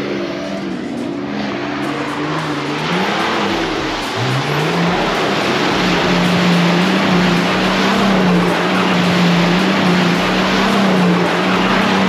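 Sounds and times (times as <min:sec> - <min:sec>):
off-road vehicle engine: 0:00.0 - 0:12.0
rushing noise: 0:00.0 - 0:12.0.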